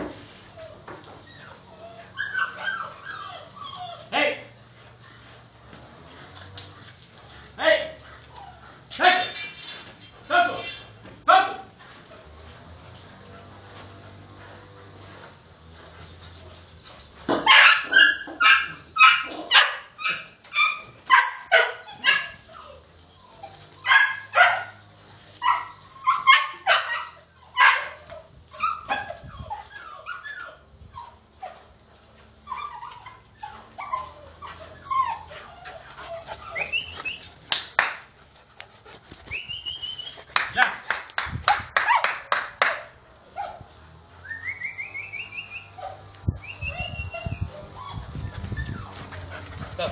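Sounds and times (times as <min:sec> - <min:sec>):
puppy whining: 0:00.0 - 0:40.9, 0:41.6 - 0:49.9
puppies barking and yipping: 0:00.0 - 0:49.9.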